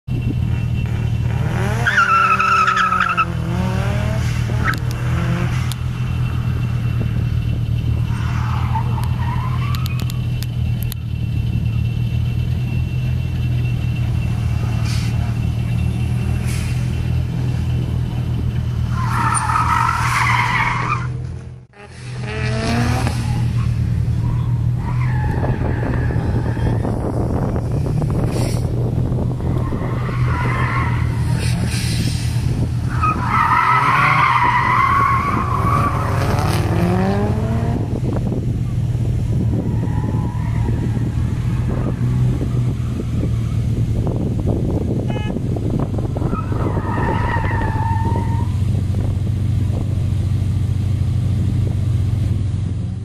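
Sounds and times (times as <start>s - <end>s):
car tyres squealing: 0.1s - 50.0s
car engine revving: 0.2s - 52.5s.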